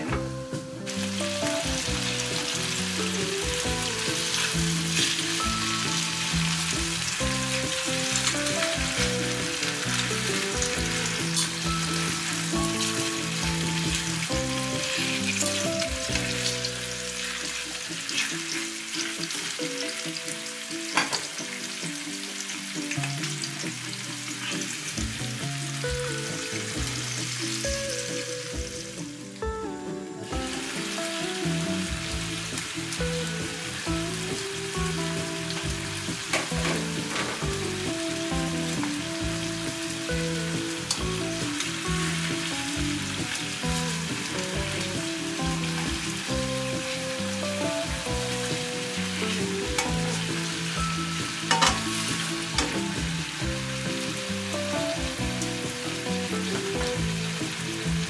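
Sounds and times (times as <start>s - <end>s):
chicken sizzling in a pan: 0.0s - 58.0s.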